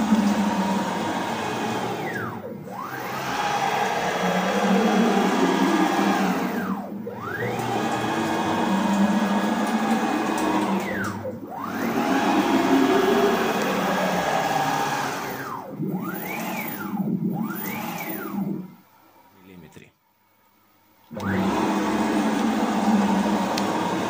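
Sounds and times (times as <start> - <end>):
stepper motors whining: 0.0 - 19.6, 21.1 - 24.0.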